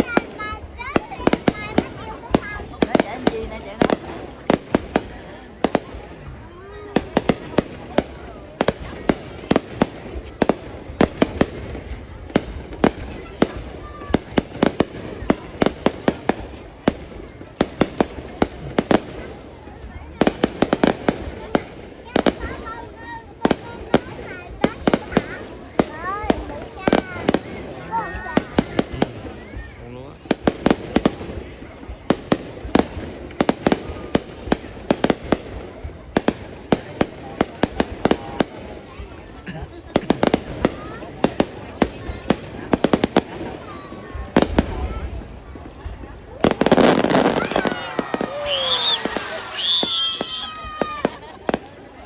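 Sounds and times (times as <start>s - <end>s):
background noise haze: 0.0s - 52.0s
fireworks bangs: 0.0s - 52.0s.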